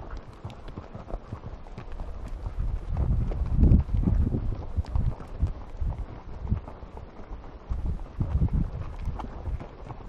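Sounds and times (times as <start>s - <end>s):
horse hoofbeats on dirt: 0.0s - 10.0s.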